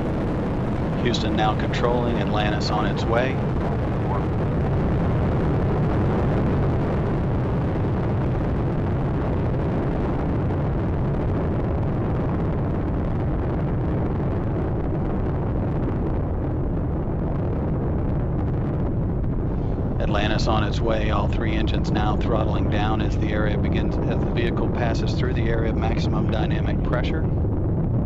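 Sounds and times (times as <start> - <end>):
rocket engines rumbling: 0.0 - 28.0.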